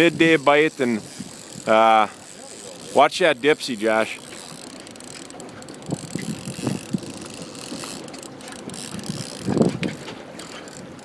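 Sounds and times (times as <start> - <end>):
fishing reel clicking: 0.0 - 11.0
wind: 0.0 - 11.0.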